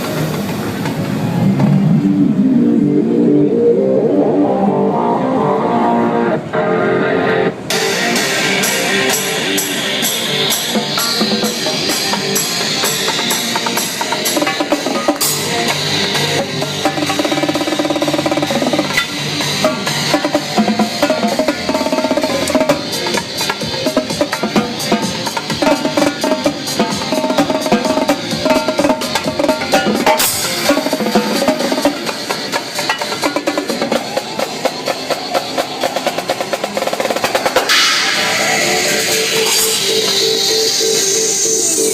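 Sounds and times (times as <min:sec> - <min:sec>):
drum kit and percussion: 0:00.0 - 0:02.4, 0:07.6 - 0:41.9
dance music: 0:01.4 - 0:41.9
sharp cymbal-like hits: 0:07.7 - 0:41.9.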